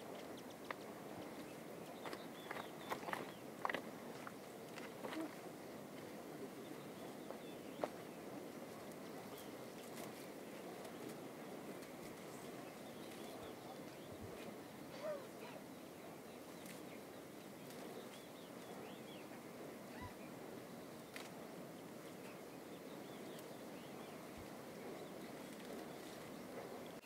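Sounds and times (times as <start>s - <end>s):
soft outdoor hiss: 0.0s - 27.0s.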